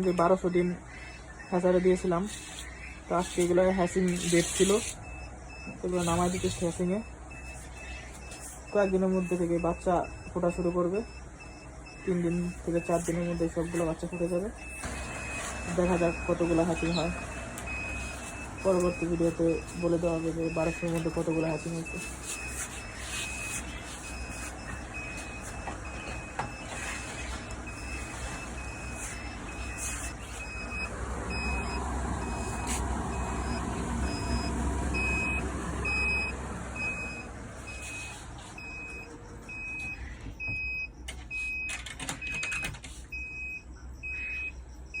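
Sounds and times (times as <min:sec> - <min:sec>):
fans humming: 0:00.0 - 0:41.3.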